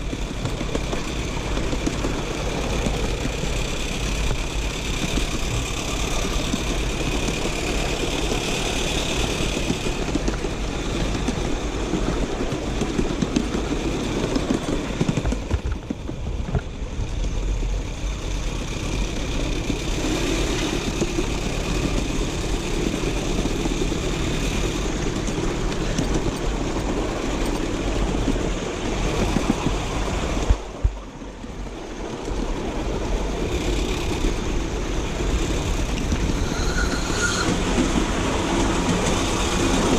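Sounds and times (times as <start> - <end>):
miniature steam locomotive running: 0.0 - 39.9.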